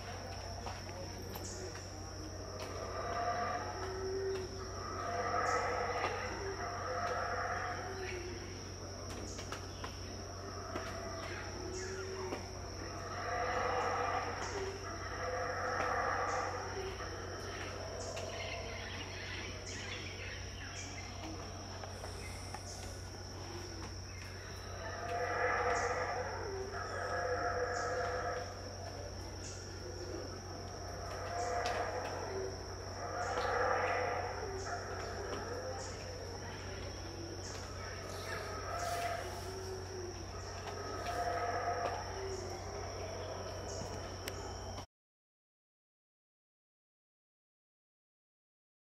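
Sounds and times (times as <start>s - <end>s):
howler monkeys roaring: 0.0s - 44.8s
high-pitched insect drone: 0.0s - 44.9s.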